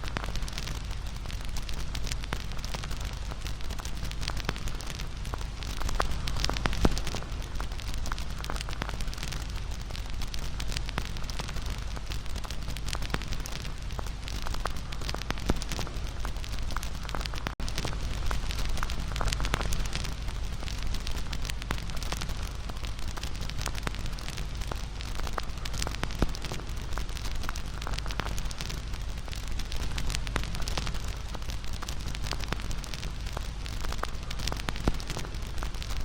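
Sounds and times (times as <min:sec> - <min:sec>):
wood crackling and popping: 0:00.0 - 0:36.0
low rush of flames: 0:00.1 - 0:36.0.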